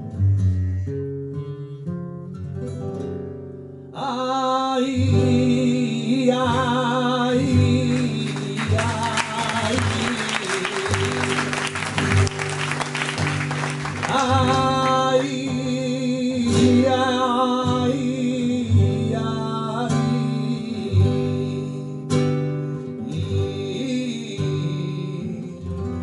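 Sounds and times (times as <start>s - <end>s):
man singing: 0.0s - 1.2s, 4.0s - 12.4s, 14.0s - 26.0s
acoustic flamenco guitar: 0.0s - 26.0s.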